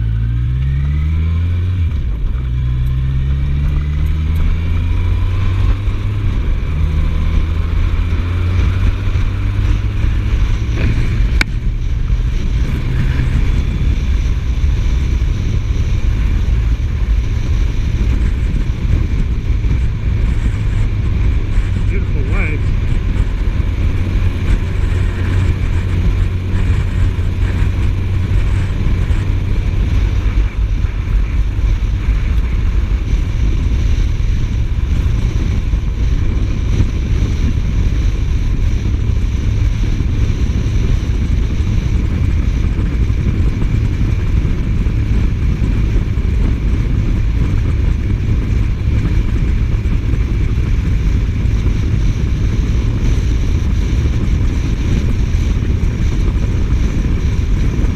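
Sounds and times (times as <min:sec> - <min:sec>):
motorcycle engine droning: 0:00.0 - 0:57.9
wind noise on microphone: 0:00.0 - 0:57.9.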